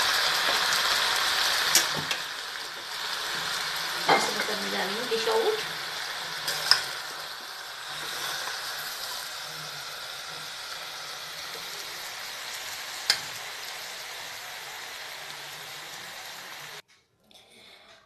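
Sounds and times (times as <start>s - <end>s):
vegetables sizzling in a pot: 0.0s - 16.8s.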